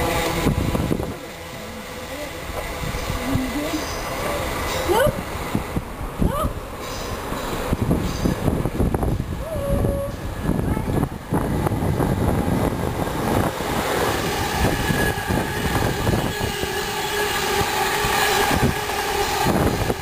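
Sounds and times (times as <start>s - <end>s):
train rumbling over rails: 0.0s - 20.0s.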